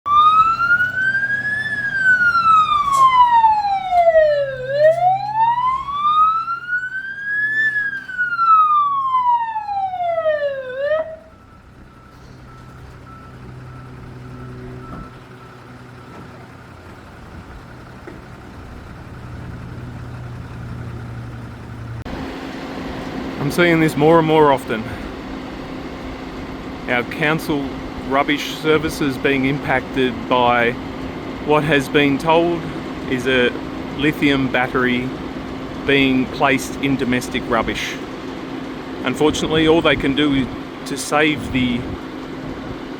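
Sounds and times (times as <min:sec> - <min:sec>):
fire engine siren wailing: 0:00.0 - 0:42.9.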